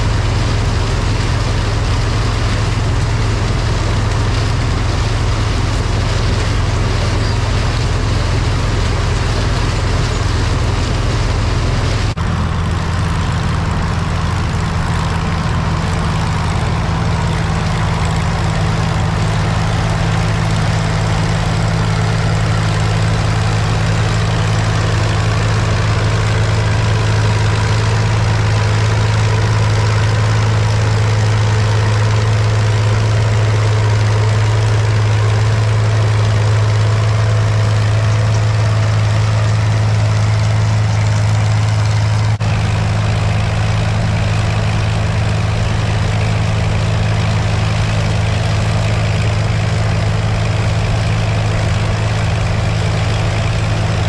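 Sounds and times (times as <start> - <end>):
heavy engine humming: 0.0 - 54.0.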